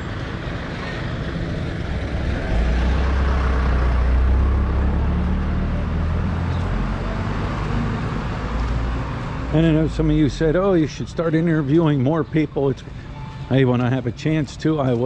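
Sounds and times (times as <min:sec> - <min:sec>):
vehicle engine rumbling past: 0:00.0 - 0:12.2
street traffic noise: 0:00.0 - 0:15.0.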